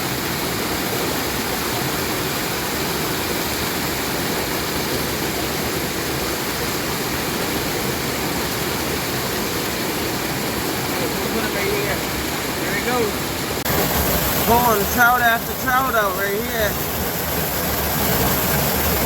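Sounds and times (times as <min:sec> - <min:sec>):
stream falls pouring into pool: 0:00.0 - 0:19.0.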